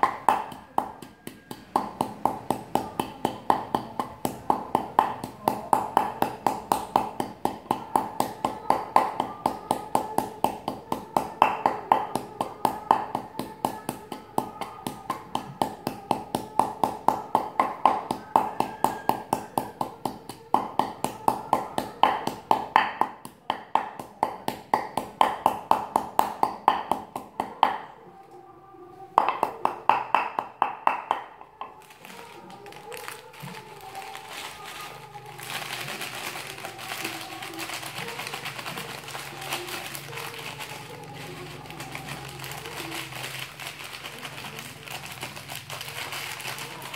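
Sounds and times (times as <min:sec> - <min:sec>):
wooden pestle pounding in mortar: 0:00.0 - 0:27.8, 0:29.2 - 0:46.9.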